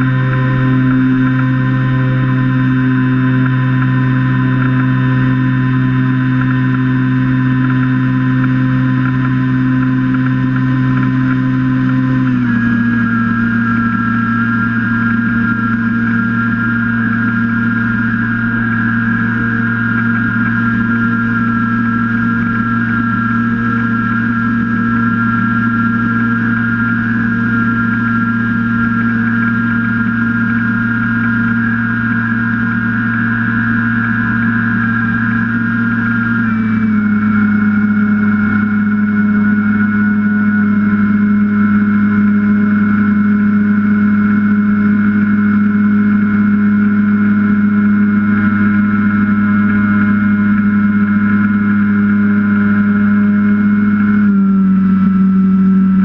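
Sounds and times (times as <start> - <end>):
propeller motor droning: 0.0 - 56.0.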